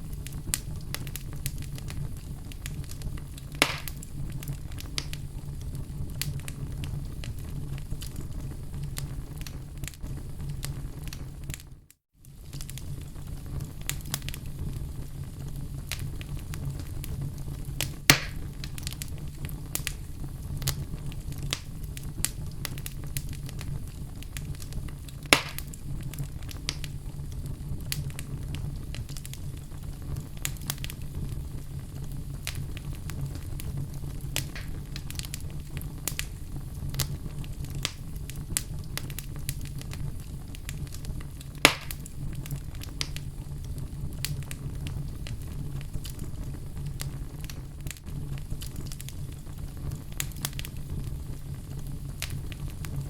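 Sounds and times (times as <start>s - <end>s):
fire crackling: 0.0s - 53.0s
fire flames rumbling: 0.0s - 53.0s
loud fire pops: 0.0s - 53.0s.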